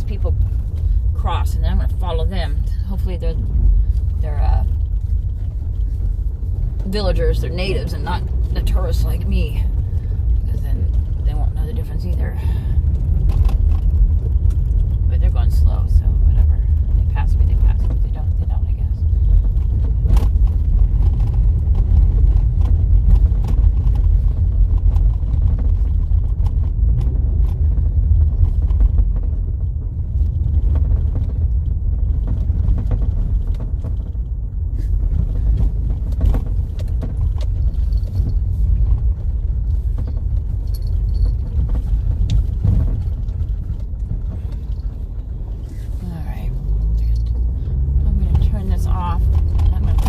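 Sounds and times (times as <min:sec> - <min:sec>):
tyre rumble on dirt road: 0:00.0 - 0:50.0.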